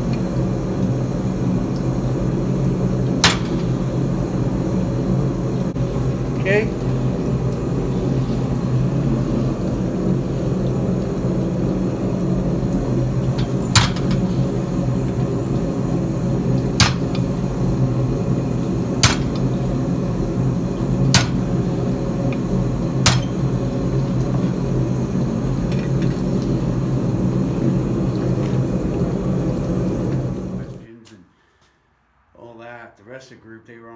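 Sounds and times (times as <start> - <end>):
low hum of shop machinery: 0.0 - 33.9.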